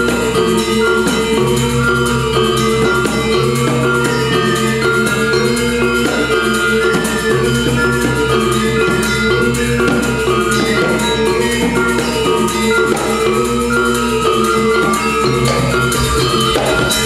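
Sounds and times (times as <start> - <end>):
hand drum: 0.0 - 17.0
low sustained tone: 0.0 - 17.0
metallophones ringing: 0.0 - 17.0.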